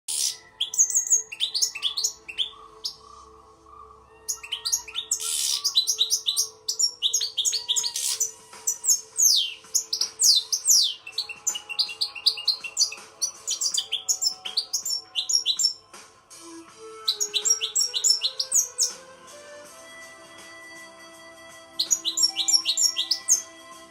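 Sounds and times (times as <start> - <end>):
goldfinch twittering song: 0.1 - 15.9, 17.0 - 19.1, 21.7 - 23.6.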